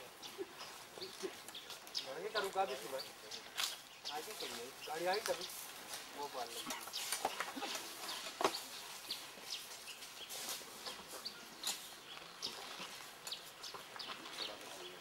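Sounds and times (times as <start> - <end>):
forest birds chirping: 0.0 - 15.0.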